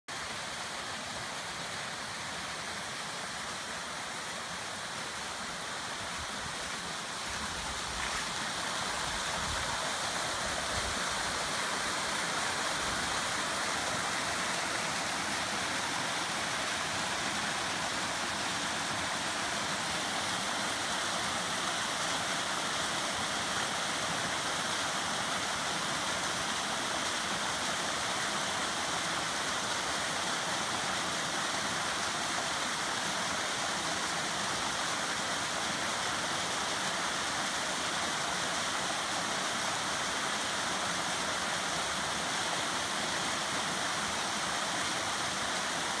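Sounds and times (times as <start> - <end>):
small waterfall rushing: 0.0 - 46.0.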